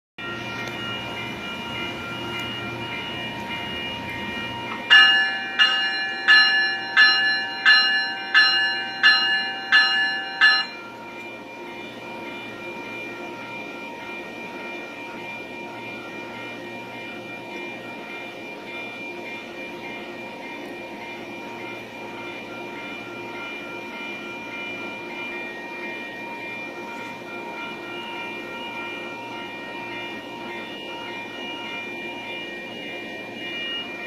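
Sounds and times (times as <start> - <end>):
standing train humming: 0.2 - 34.0
train bell ringing: 0.2 - 34.0.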